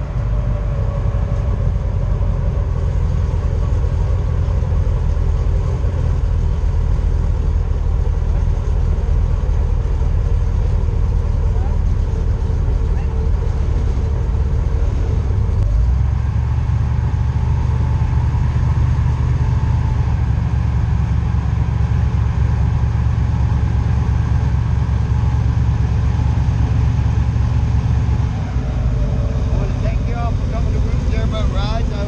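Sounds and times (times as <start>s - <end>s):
airboat engine and propeller: 0.0s - 32.0s.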